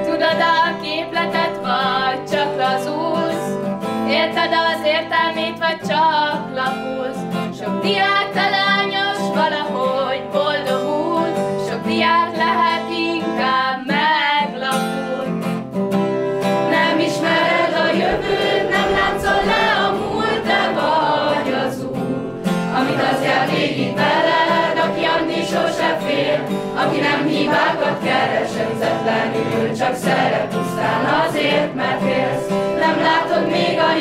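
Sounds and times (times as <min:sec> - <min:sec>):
choir of young voices singing: 0:00.0 - 0:03.6, 0:07.8 - 0:14.5, 0:16.6 - 0:34.0
strummed acoustic guitar: 0:00.0 - 0:34.0.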